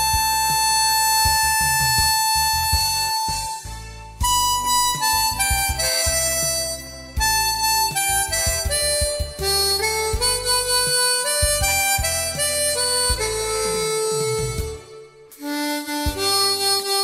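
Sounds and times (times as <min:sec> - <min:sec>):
backing track with bass and drums: 0:00.0 - 0:17.0
harmonica melody: 0:00.0 - 0:17.0.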